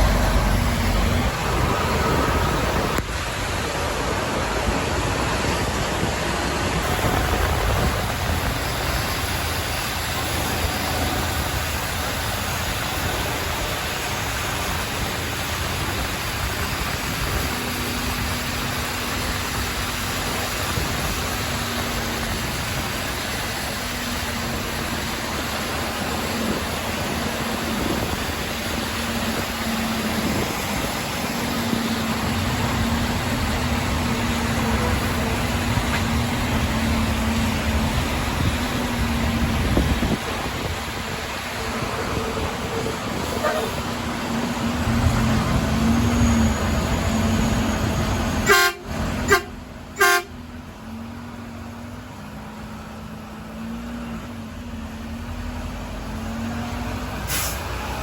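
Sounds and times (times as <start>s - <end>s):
engine drone: 0.0s - 58.0s
tyres and wind rushing: 0.0s - 58.0s.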